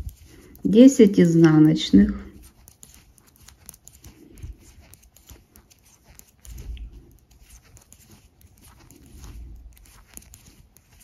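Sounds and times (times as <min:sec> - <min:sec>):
knitting needles clicking: 0:00.0 - 0:11.0
yarn rustling: 0:00.0 - 0:11.0.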